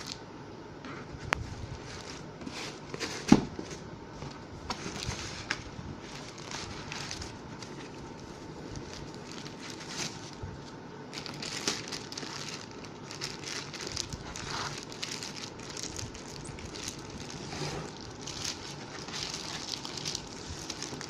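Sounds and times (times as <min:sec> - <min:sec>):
packaging crinkling and rustling: 0:01.4 - 0:21.0.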